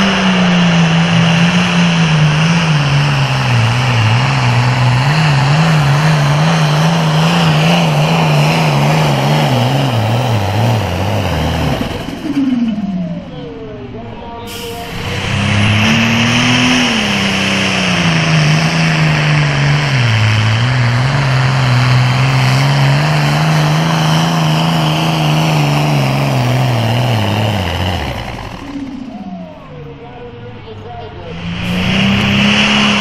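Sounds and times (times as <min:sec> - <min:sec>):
diesel tractor engine at full throttle: 0:00.0 - 0:33.0.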